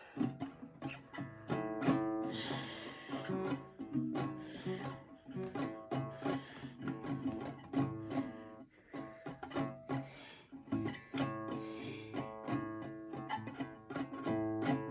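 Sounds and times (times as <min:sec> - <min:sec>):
acoustic guitar strumming: 0:00.1 - 0:14.9.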